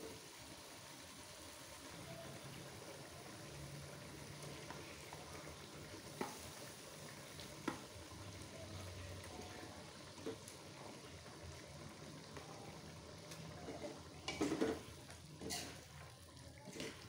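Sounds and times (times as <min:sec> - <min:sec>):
sauce sizzling in a wok: 0:00.0 - 0:17.0.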